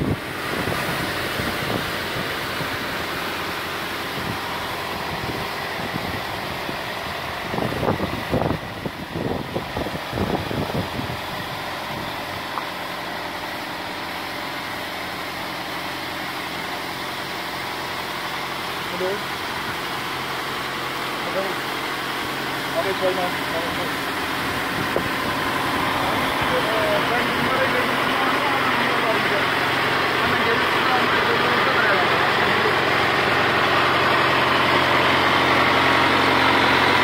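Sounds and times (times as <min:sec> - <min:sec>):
engine and drive hum: 0:00.0 - 0:37.0.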